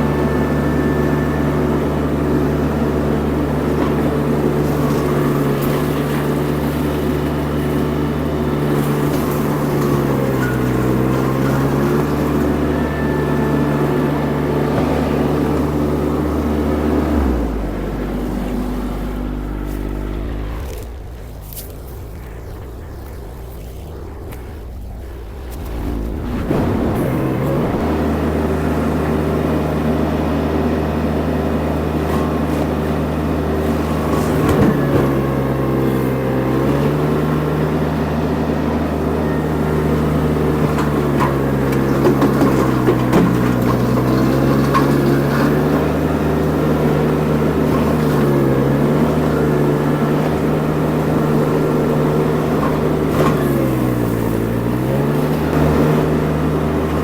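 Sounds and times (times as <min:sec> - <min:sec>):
brush mulcher: 0:00.0 - 0:57.0
engine running under load: 0:00.0 - 0:57.0.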